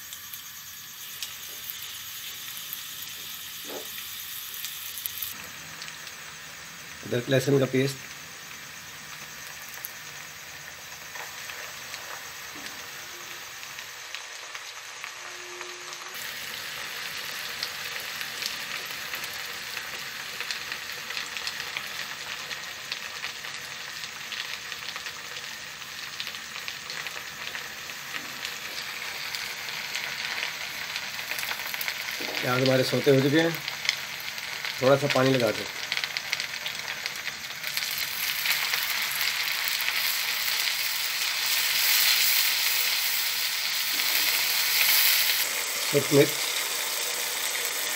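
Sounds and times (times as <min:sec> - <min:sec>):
onions sizzling in hot oil: 0:00.0 - 0:47.9.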